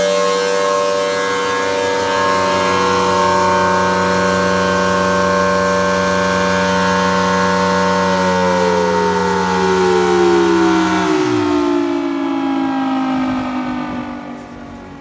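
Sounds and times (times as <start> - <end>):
tornado siren steady tone: 0.0 - 15.0.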